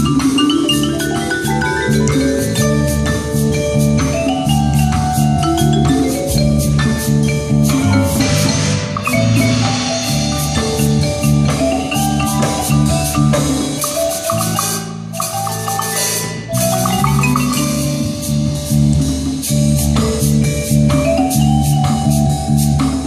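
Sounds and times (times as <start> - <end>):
low bass notes: 0.0 - 23.0
mallet keyboard run: 0.0 - 23.0
sharp percussion strikes: 0.0 - 23.0.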